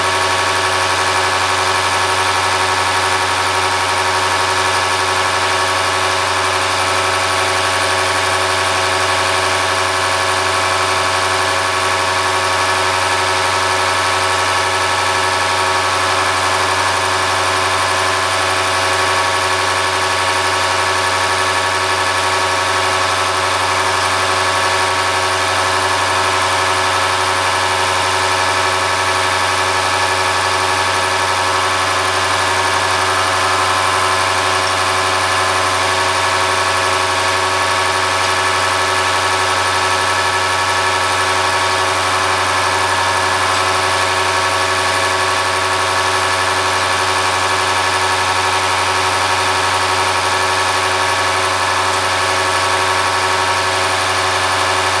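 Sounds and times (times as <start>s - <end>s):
machine hum with whine: 0.0s - 55.0s.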